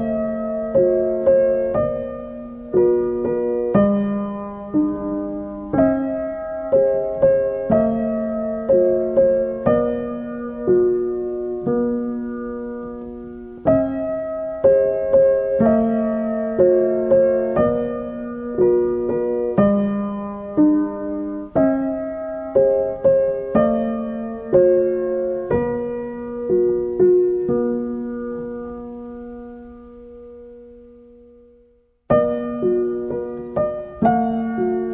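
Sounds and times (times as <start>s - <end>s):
slow solo piano piece: 0.0s - 34.9s.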